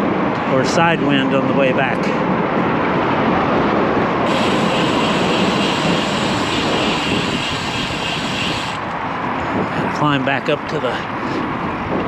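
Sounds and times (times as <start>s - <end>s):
road noise: 0.0s - 12.0s
wind rushing over microphone: 0.0s - 12.0s.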